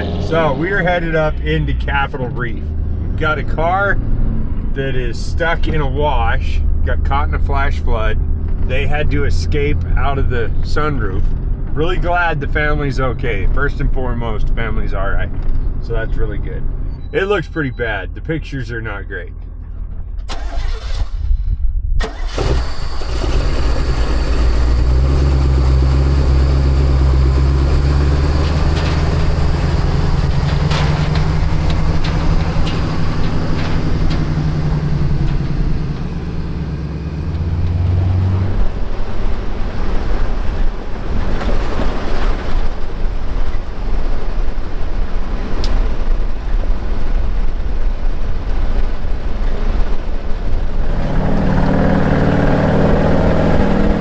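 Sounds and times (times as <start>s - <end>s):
truck engine humming: 0.0s - 14.5s, 15.3s - 20.9s, 22.0s - 54.0s
tyre and road noise: 0.0s - 54.0s.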